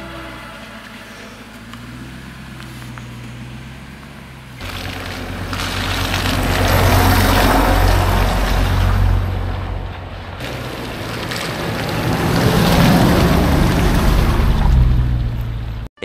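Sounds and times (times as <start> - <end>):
pickup truck driving over sand: 0.0 - 15.8
vehicle engine humming: 0.0 - 15.9.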